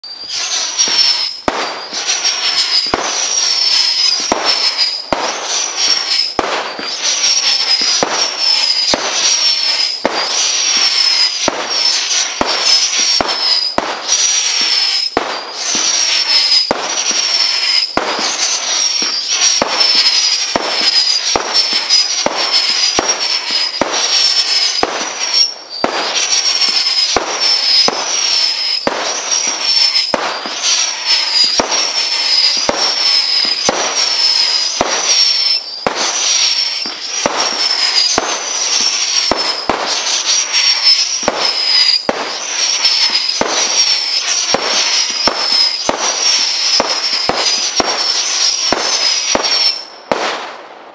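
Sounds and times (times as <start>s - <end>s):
high whining firework drone: 0.0s - 50.7s
fireworks launch thumps and cracks: 0.0s - 50.9s.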